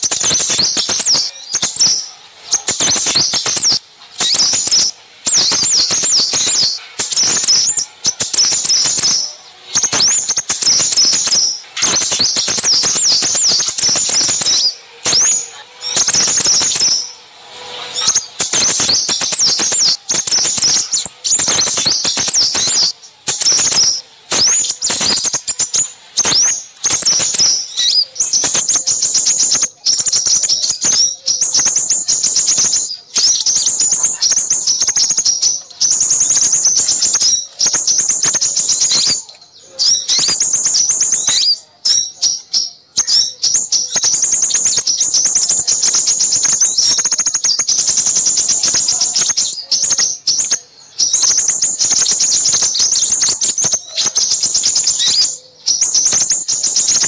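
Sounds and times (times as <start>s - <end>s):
songbirds chattering and trilling: 0.0s - 57.0s.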